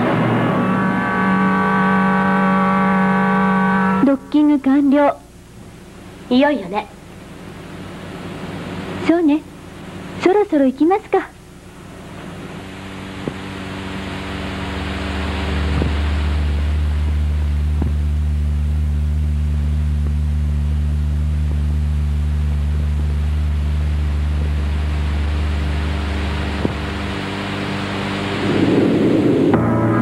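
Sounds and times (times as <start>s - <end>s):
low spaceship engine drone: 0.0s - 10.7s, 11.3s - 30.0s.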